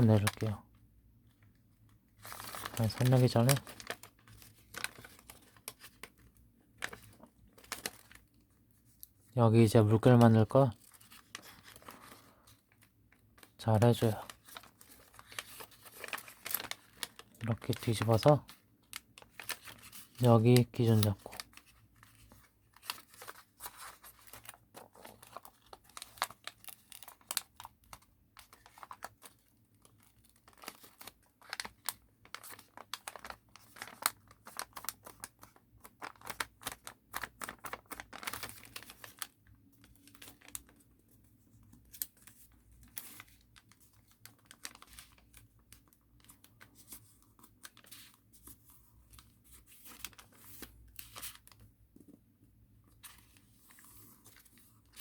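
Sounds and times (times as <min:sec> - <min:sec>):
paper being folded and crinkled: 0:00.0 - 0:00.6, 0:01.3 - 0:55.0.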